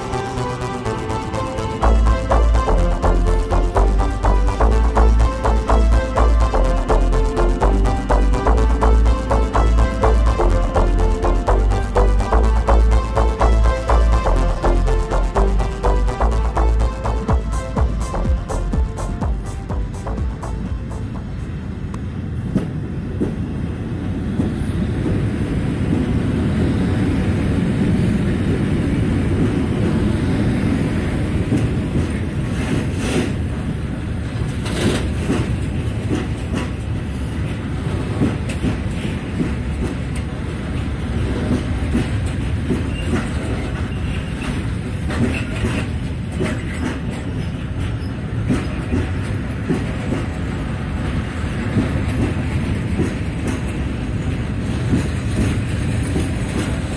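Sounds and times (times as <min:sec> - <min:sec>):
freight train rumbling and clattering: 0:00.0 - 0:56.9.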